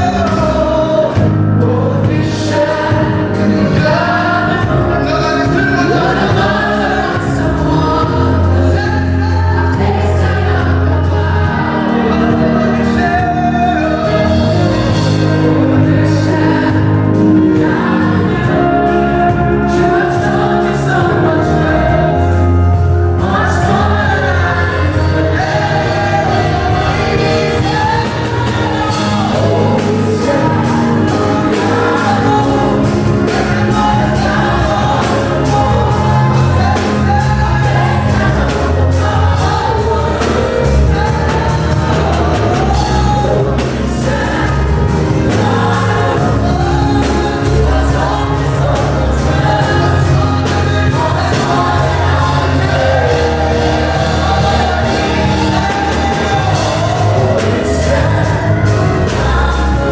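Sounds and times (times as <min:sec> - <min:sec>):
choir singing gospel: 0:00.0 - 0:59.9
sustained bass notes: 0:00.0 - 0:59.9.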